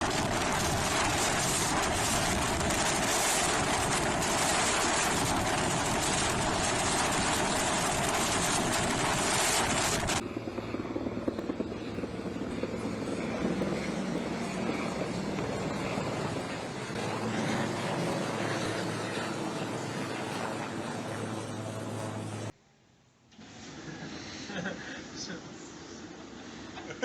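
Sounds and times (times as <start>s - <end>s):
jet engine roaring: 0.0s - 22.5s.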